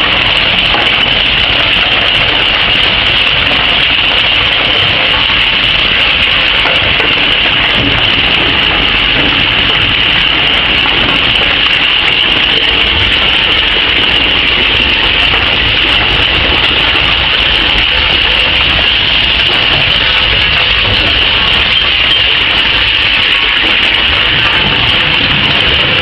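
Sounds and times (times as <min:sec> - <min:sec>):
shredding machine noise: 0:00.0 - 0:26.0.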